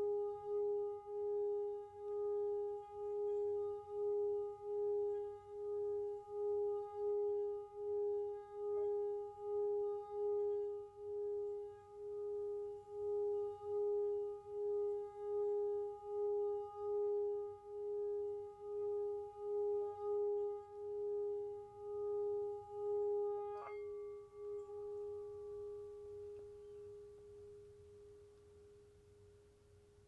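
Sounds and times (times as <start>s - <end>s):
singing bowl tone: 0.0s - 29.8s.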